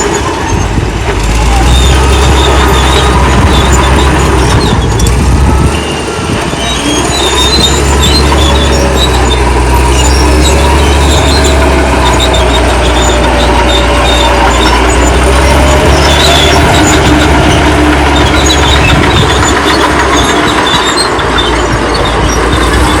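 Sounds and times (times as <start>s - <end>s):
bulldozer diesel engine running: 0.0s - 23.0s
steel tracks squealing: 0.0s - 23.0s.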